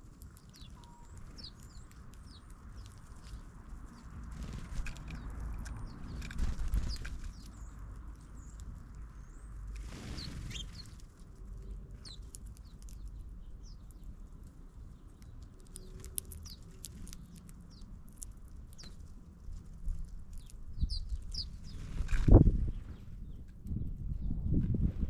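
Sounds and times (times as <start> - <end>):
small birds chirping: 0.0 - 24.6.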